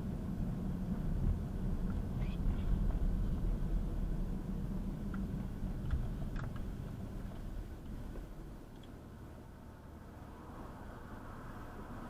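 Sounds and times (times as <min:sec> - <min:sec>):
low vehicle engine rumble: 0:00.0 - 0:12.0.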